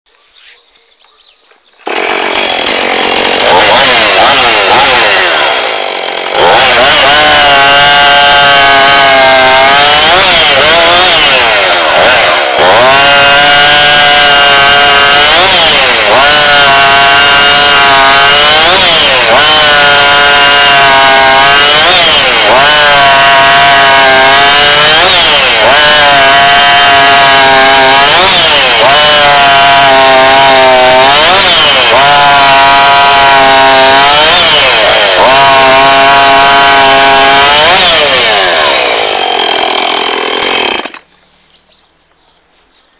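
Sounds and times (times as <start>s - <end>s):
chainsaw running at high revs: 1.8s - 41.1s.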